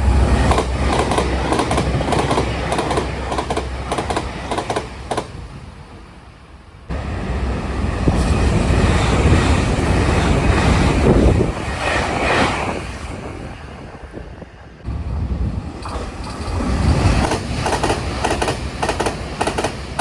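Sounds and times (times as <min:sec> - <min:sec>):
train passing at high speed: 0:00.0 - 0:20.0.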